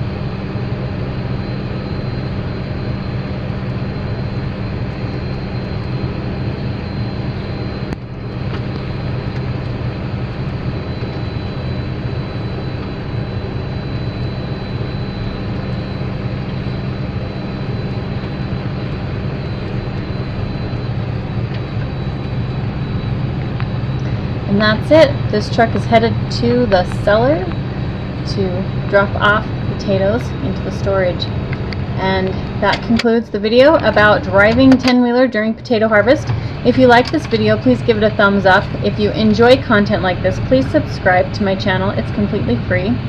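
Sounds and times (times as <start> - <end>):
thin high whine: 0.0 - 43.0
tractor and machinery drone: 0.0 - 43.0.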